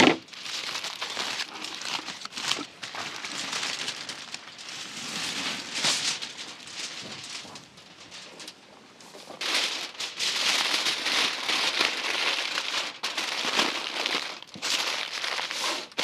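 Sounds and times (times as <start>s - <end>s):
aluminium foil crinkling: 0.0s - 8.6s, 9.2s - 16.0s.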